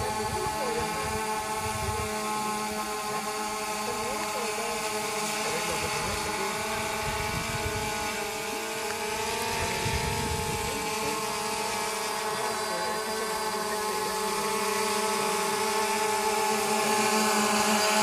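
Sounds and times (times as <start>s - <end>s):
quadcopter propellers humming: 0.0s - 18.0s.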